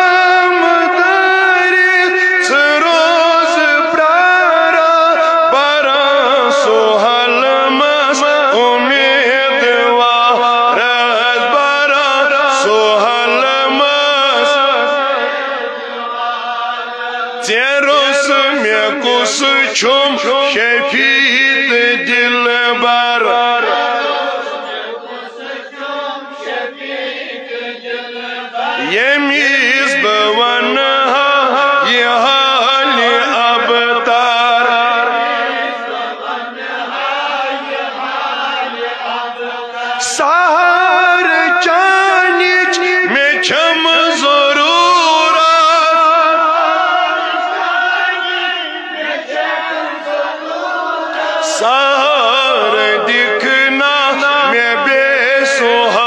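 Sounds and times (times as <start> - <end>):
men chanting a hymn: 0.0 - 56.0.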